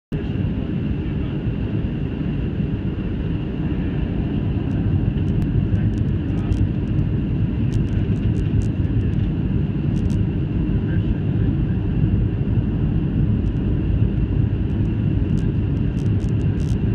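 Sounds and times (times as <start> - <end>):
airplane cabin engine rumble: 0.1 - 16.9
faint steady whine: 0.1 - 16.9.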